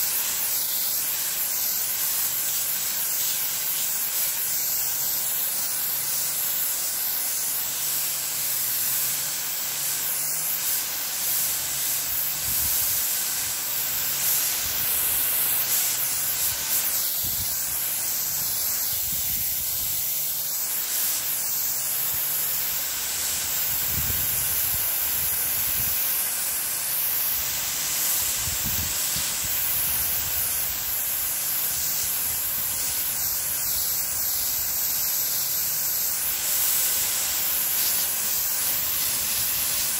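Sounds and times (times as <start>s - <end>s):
water mist spraying: 0.0s - 39.9s.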